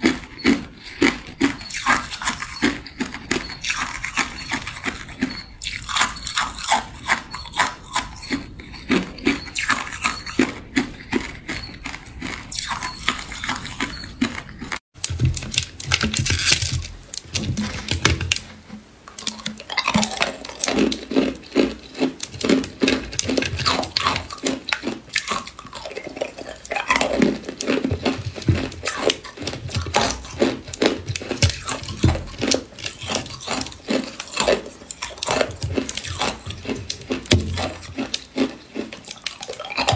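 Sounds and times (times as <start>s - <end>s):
ice crunching in mouth: 0.0s - 18.5s, 19.1s - 39.9s.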